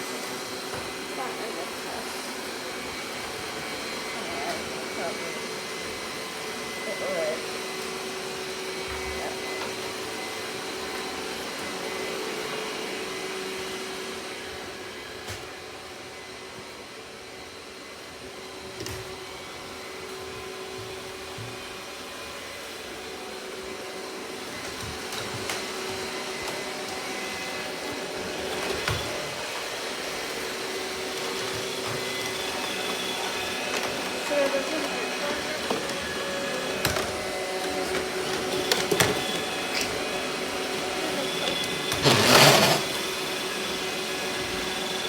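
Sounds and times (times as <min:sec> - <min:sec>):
robot vacuum motor whine: 0:00.0 - 0:45.0.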